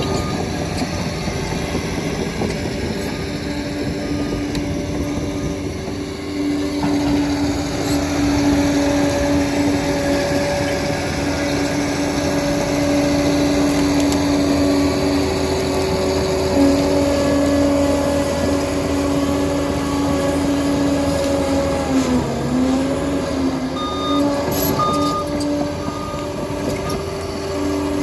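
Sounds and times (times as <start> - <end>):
bulldozer diesel engine drone: 0.0 - 28.0.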